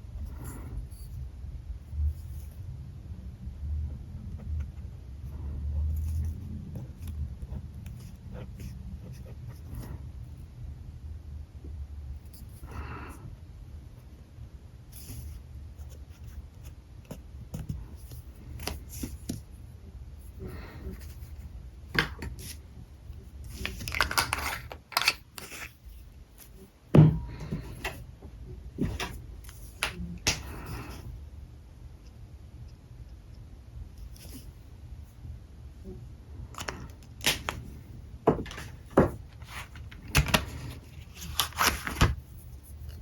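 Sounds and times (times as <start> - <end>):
steady low hum: 0.0 - 24.0, 25.2 - 43.0.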